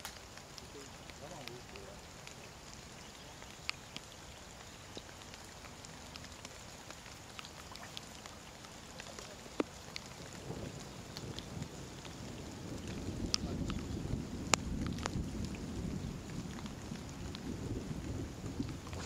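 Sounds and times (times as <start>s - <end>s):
raindrops tapping on camera housing: 0.0s - 19.0s
soft steady rain hiss: 0.0s - 19.0s.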